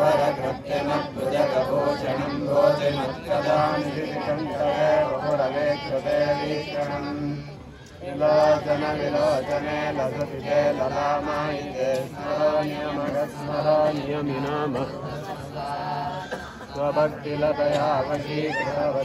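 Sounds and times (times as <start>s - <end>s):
men chanting mantras: 0.0s - 19.0s.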